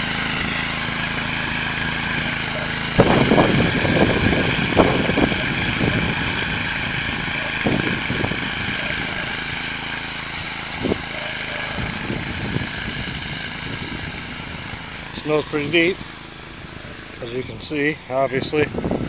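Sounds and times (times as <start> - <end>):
garden tractor engine running: 0.0 - 19.0.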